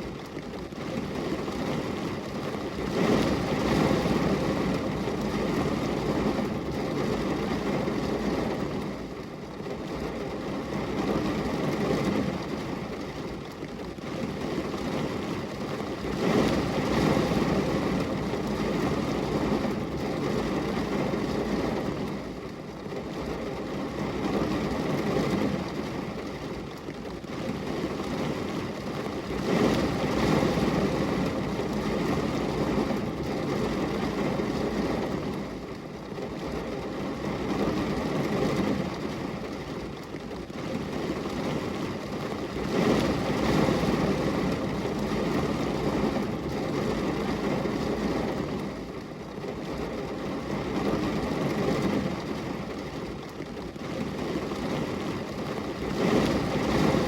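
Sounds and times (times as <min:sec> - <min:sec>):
rain on a glass window: 0:00.0 - 0:57.0.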